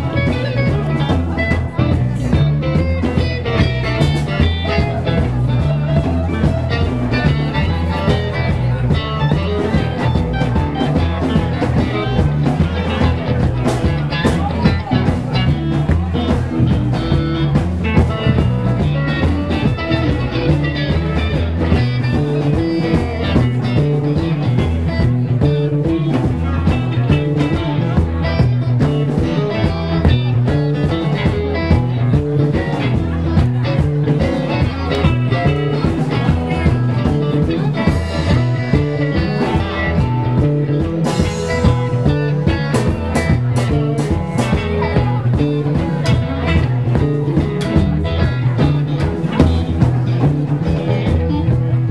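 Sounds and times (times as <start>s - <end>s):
bass guitar: 0.0s - 51.9s
drum kit: 0.0s - 51.9s
electric guitars: 0.0s - 51.9s.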